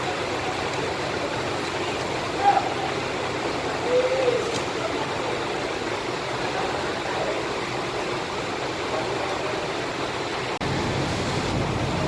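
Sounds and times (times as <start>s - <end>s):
buses running: 0.0s - 12.0s
heavy rain hiss: 0.0s - 12.0s.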